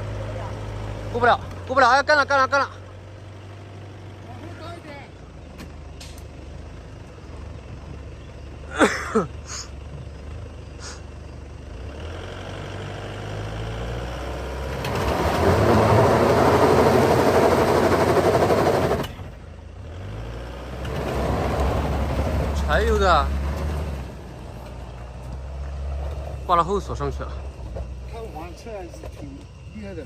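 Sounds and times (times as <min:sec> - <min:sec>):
diesel engine revving under load: 0:00.0 - 0:28.6.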